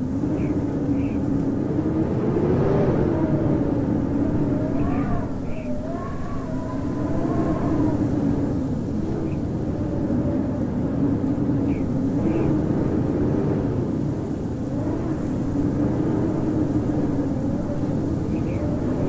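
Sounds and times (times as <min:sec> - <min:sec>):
howling blizzard wind: 0:00.0 - 0:19.0.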